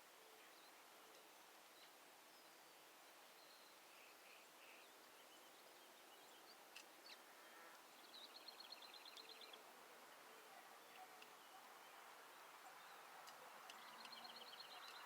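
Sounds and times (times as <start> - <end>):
faint steady hiss: 0.0 - 15.0
songbird chirps and trill: 0.0 - 15.0.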